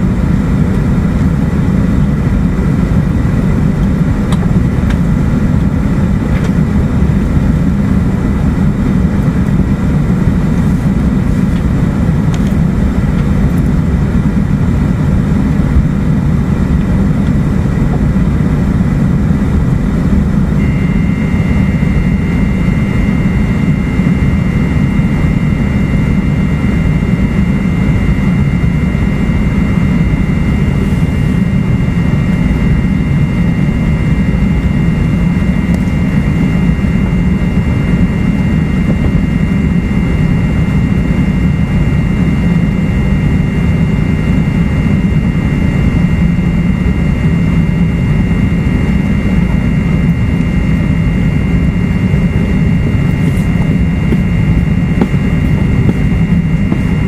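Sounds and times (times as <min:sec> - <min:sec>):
thin high whine: 0:00.0 - 0:57.0.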